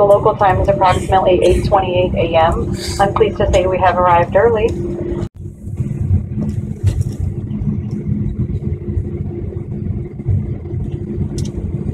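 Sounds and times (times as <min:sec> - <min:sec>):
constant cabin hum: 0:00.0 - 0:11.9
jet engines idling rumble: 0:00.0 - 0:11.9.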